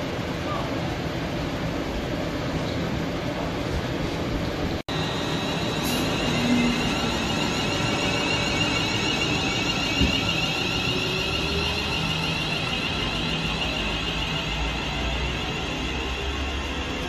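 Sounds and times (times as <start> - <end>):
electric train high whine: 0.0 - 17.0
wheel and rail noise: 0.0 - 17.0.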